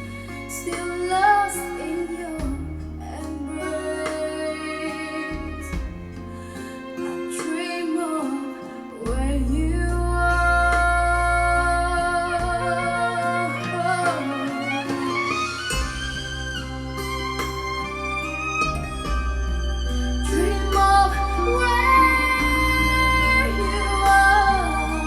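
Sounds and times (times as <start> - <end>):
deep bass line: 0.0 - 6.6, 9.1 - 25.0
ballad through speakers: 0.0 - 25.0.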